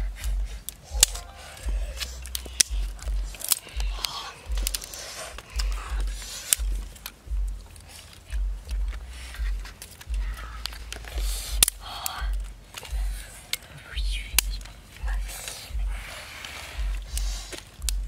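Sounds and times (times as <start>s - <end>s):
wind buffeting microphone: 0.0s - 18.0s
dry twigs snapping: 0.1s - 18.0s.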